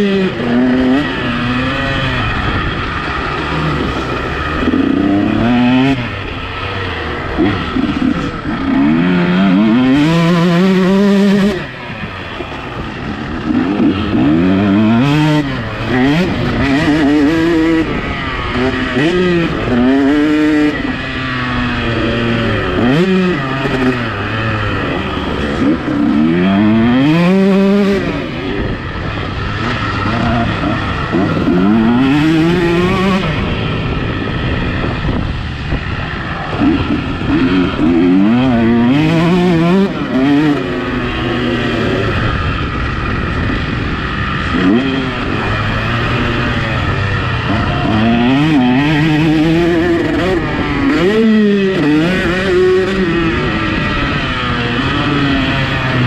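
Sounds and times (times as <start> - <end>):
two-stroke motorbike engine revving: 0.0 - 56.0.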